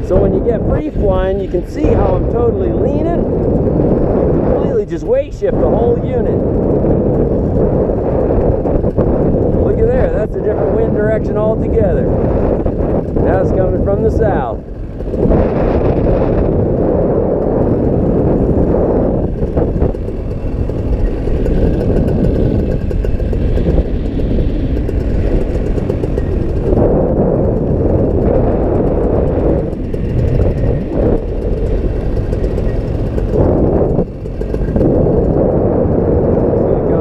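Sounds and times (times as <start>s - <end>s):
gusty wind on microphone: 0.0s - 37.0s.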